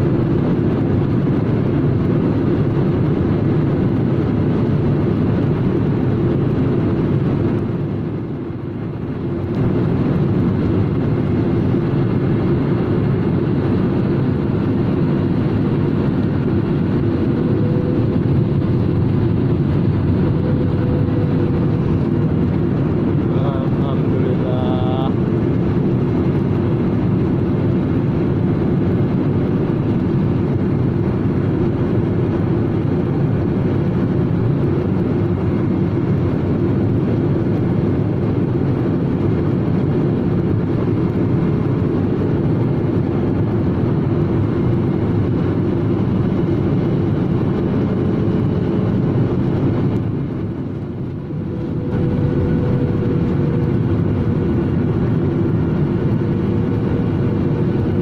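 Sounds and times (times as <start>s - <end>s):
airliner cabin drone in flight: 0.0s - 58.0s.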